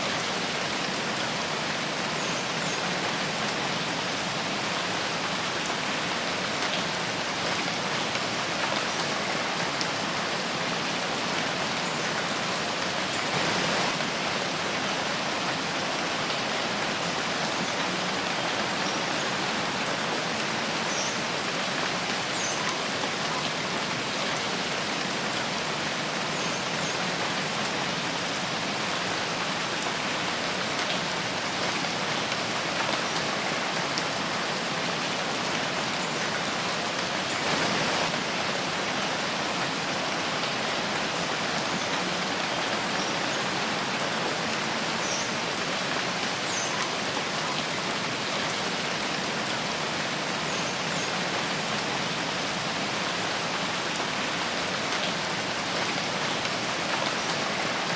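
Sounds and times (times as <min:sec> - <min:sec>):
rain falling in forest: 0:00.0 - 0:57.9.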